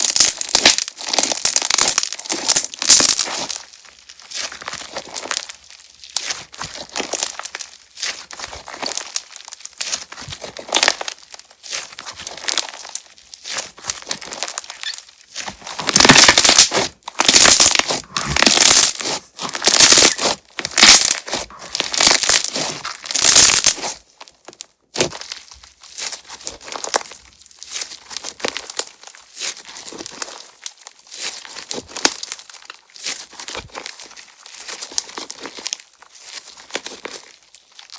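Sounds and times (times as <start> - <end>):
slime crackling and popping: 0.0 - 37.9.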